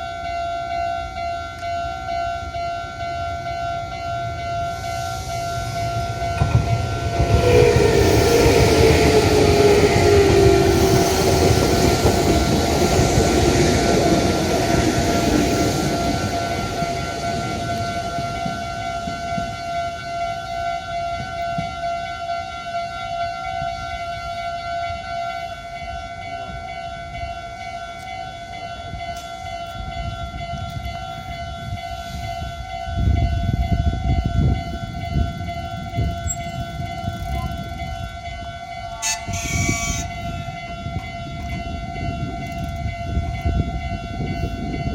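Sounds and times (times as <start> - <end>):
train wheel and motor rumble: 0.0 - 22.8, 27.9 - 44.9
level-crossing warning alarm: 0.0 - 44.9.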